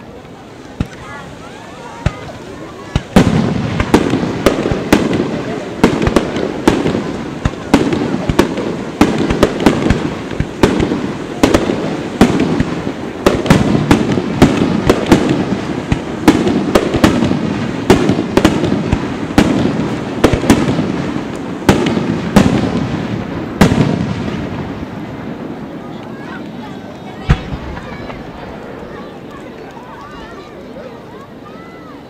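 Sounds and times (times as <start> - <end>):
firework bangs: 0.1 - 30.5.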